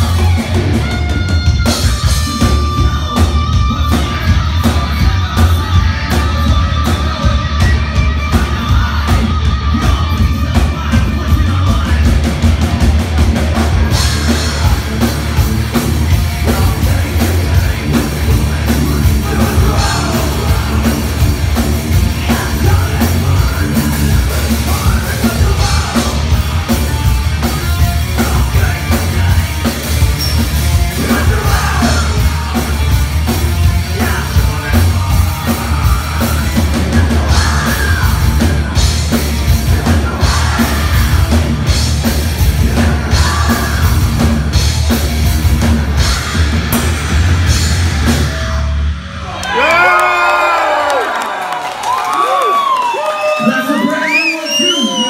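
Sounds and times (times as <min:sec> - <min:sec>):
distorted guitars: 0:00.0 - 0:50.1
bass guitar: 0:00.0 - 0:52.8
drums: 0:00.0 - 0:55.0.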